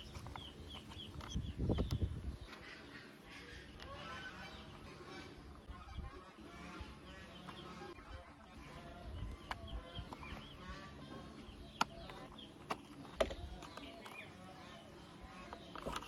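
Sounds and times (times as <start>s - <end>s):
chickens clucking: 0.0s - 16.0s
small birds calling: 0.0s - 16.0s.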